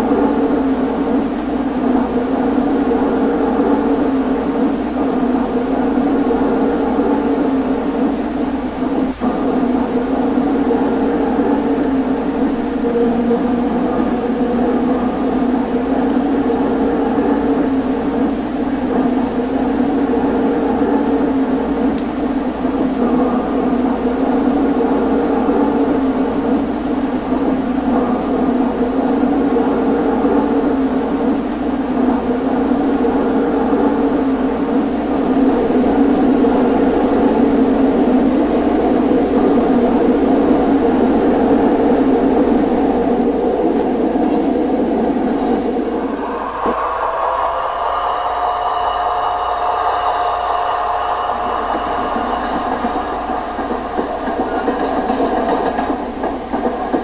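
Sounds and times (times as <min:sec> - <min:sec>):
model train electric hum: 0:00.0 - 0:57.0.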